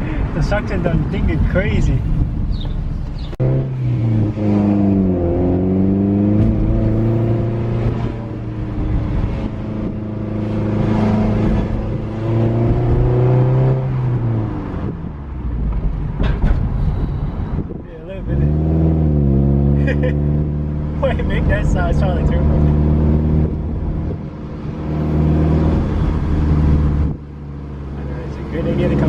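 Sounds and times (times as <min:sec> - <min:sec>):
car engine revving: 0:00.8 - 0:16.1, 0:18.2 - 0:29.0.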